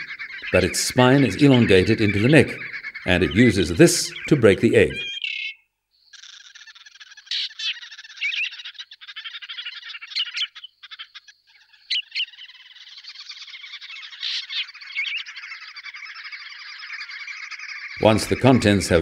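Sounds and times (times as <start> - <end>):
small animals chirring and trilling: 0.0 - 19.0.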